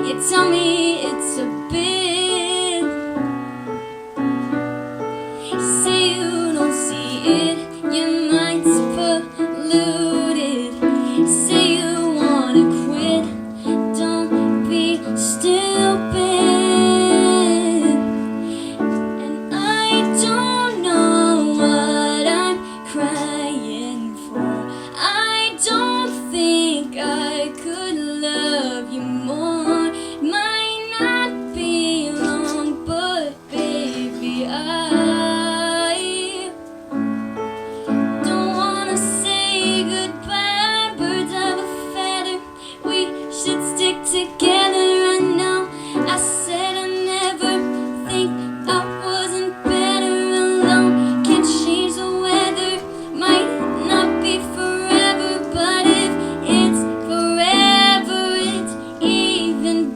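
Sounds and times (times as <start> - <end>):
woman singing slow pop song: 0.0 - 3.2, 5.3 - 36.7, 37.9 - 59.9
piano accompaniment: 0.0 - 59.9.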